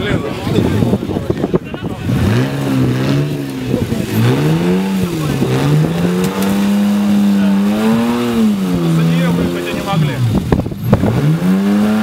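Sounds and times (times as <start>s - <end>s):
engine revving under load: 1.7s - 12.0s.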